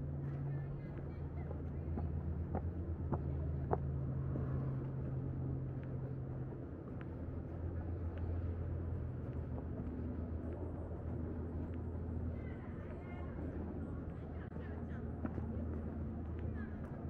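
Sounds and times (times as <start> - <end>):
low hum of traffic: 0.0 - 17.0.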